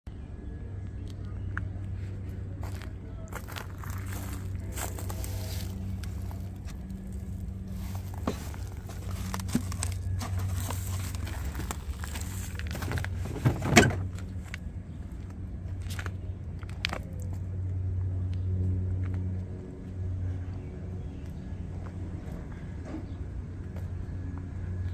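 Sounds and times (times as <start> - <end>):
low engine hum: 0.1 - 24.9.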